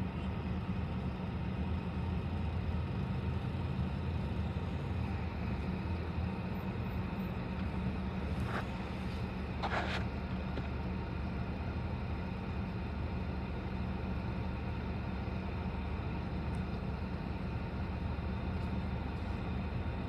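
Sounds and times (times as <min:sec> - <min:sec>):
idling vehicles rumble: 0:00.0 - 0:20.0.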